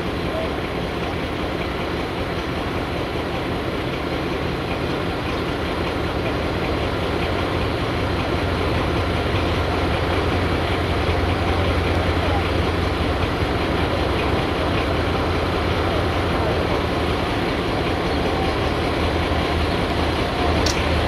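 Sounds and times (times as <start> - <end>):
diesel locomotive engine: 0.0 - 21.0.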